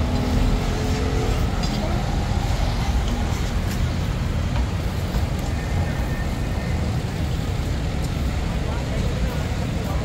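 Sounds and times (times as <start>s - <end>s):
crowd voices: 0.0s - 10.0s
road traffic noise: 0.0s - 10.0s.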